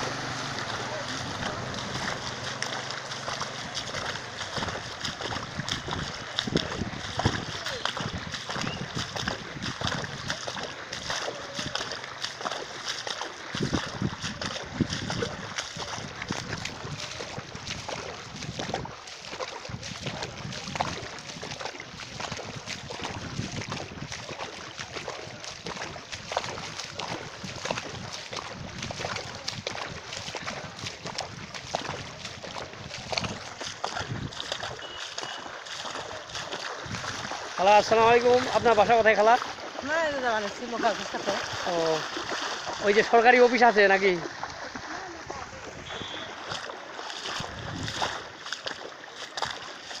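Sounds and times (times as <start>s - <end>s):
floodwater splashing and sloshing: 0.0s - 50.0s.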